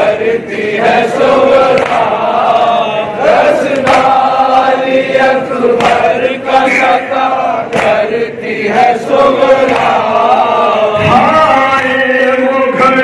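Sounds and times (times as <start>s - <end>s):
lead singer at a microphone: 0.0s - 13.0s
men chanting a lament: 0.0s - 13.0s.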